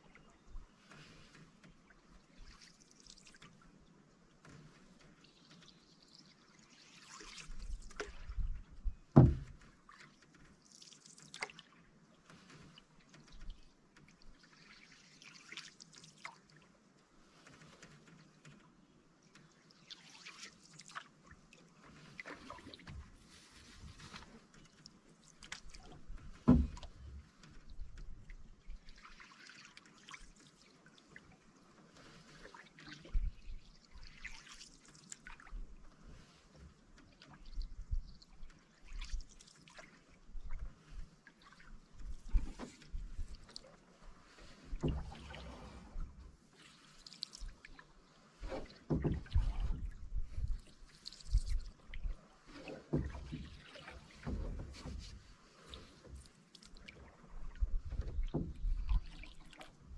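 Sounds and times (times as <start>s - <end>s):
canoe paddle strokes in water: 0.0s - 59.9s.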